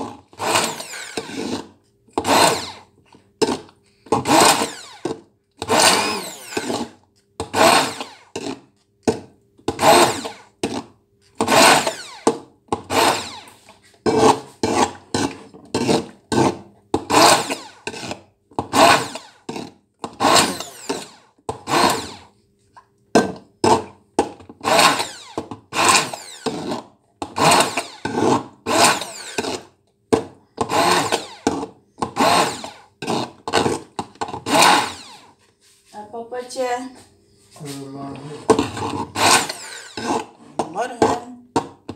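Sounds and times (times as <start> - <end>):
stick blender motor pulsing: 0.0 - 8.8, 9.7 - 22.3, 23.6 - 29.8, 30.6 - 35.4, 38.2 - 41.3.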